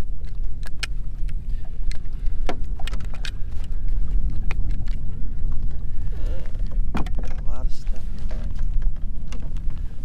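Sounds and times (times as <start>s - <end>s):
clicks from fishing float and line: 0.0s - 10.0s
wind buffeting microphone: 0.0s - 10.0s.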